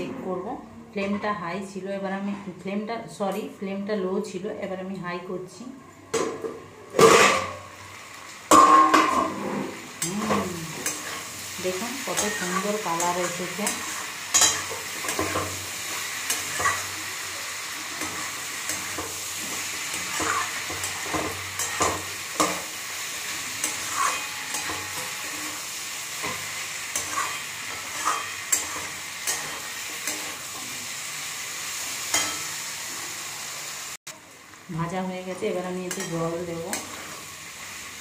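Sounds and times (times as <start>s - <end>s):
food sizzling in oil: 6.8s - 38.0s.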